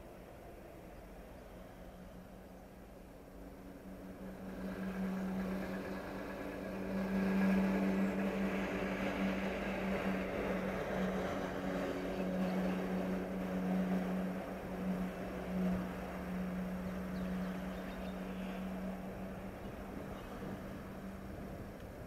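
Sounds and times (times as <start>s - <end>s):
large engine humming: 0.0s - 22.0s.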